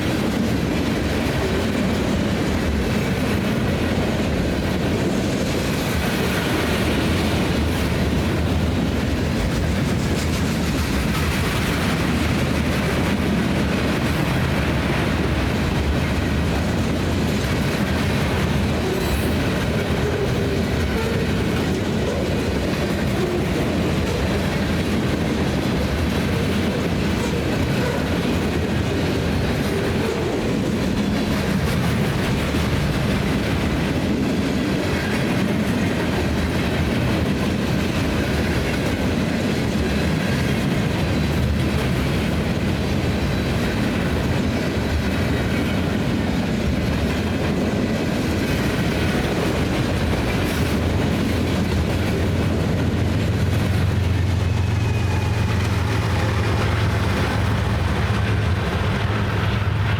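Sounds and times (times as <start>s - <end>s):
train cars rumbling on rails: 0.0s - 59.9s.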